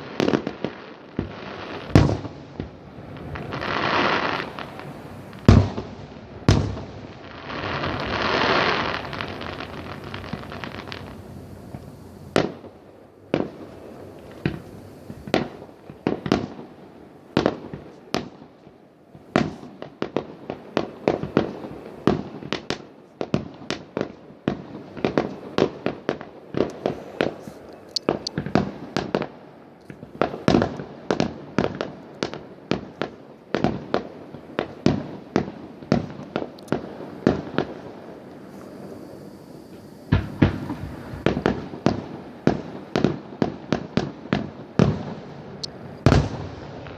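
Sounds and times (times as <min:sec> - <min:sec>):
firecracker cracks: 0:00.0 - 0:46.9
firework bangs: 0:00.0 - 0:46.9
firework hissing: 0:00.0 - 0:46.9.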